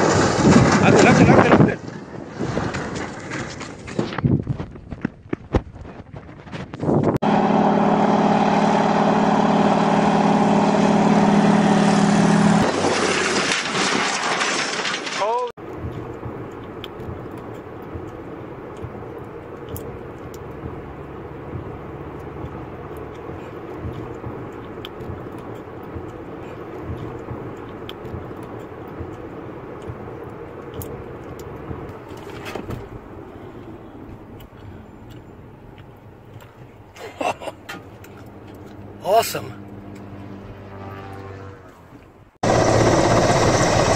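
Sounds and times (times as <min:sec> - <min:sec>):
car road and engine drone: 0:00.0 - 0:43.9.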